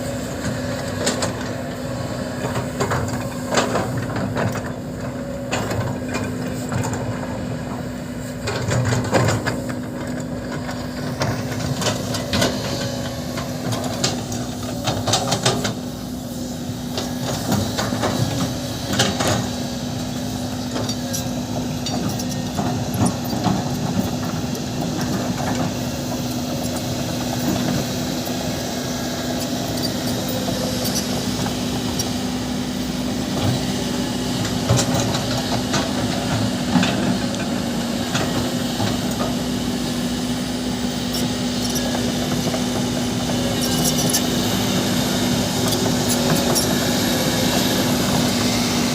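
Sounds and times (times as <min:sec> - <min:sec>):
diesel machine humming: 0:00.0 - 0:48.9.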